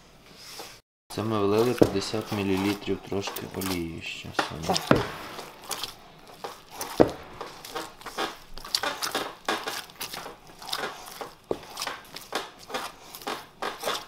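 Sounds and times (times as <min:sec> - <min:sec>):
dough squelching and slapping: 0:01.1 - 0:14.0.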